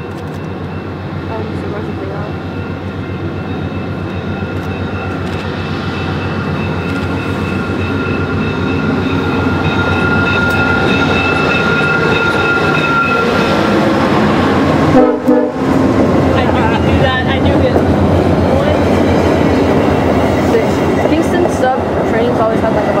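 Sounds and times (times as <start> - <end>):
high whine: 0.0 - 20.6
passing train rumble: 0.0 - 23.0.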